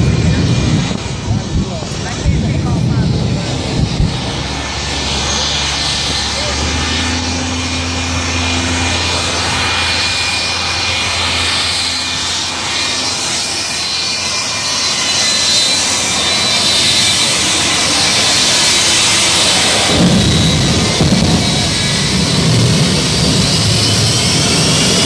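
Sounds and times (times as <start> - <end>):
coarse low rumble: 0.0 - 25.0
jet engines rushing and whining: 0.0 - 25.0.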